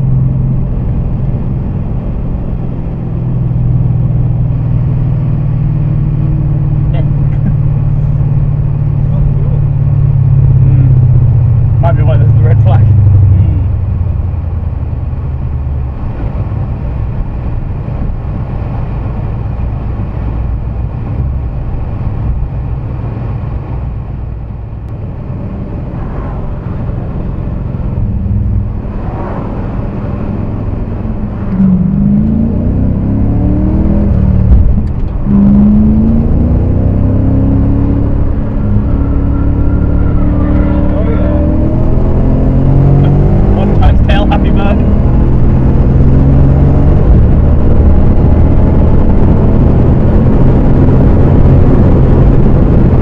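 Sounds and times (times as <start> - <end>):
car engine accelerating at speed: 0.0 - 53.0.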